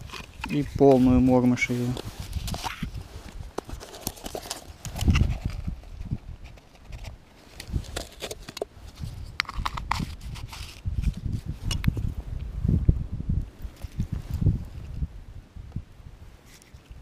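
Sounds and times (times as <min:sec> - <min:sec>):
wind buffeting microphone: 0:00.0 - 0:03.6, 0:04.7 - 0:08.0, 0:08.7 - 0:17.0.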